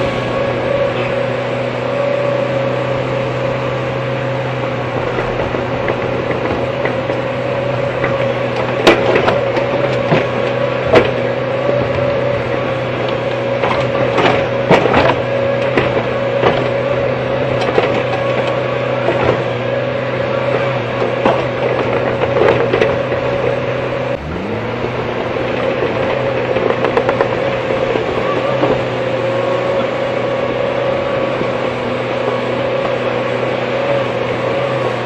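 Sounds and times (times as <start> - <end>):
excavator engine hum and whine: 0.0 - 35.0.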